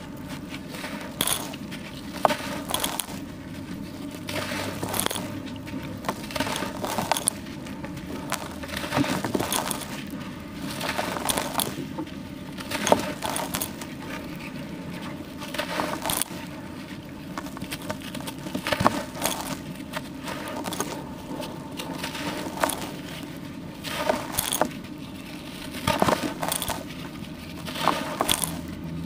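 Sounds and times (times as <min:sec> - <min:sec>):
charcoal crunching by hand: 0:00.0 - 0:29.0
sharp charcoal crack: 0:00.7 - 0:29.0.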